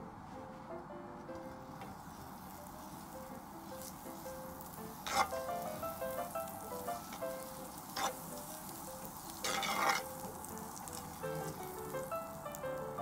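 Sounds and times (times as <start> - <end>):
soft instrumental music: 0.0 - 13.0
batter sizzling in pan: 1.4 - 13.0.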